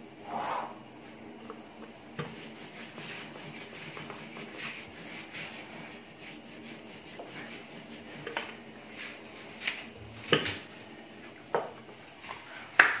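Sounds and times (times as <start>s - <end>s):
rolling pin rolling dough on stone: 1.0s - 12.0s.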